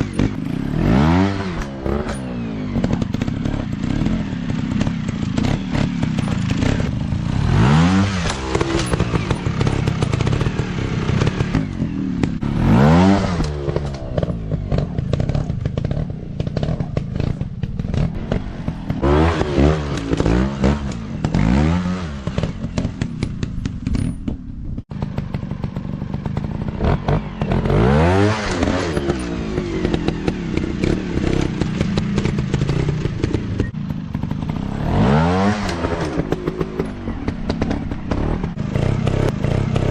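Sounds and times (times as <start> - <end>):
dirt bike engines revving: 0.0 - 24.2, 25.0 - 39.9.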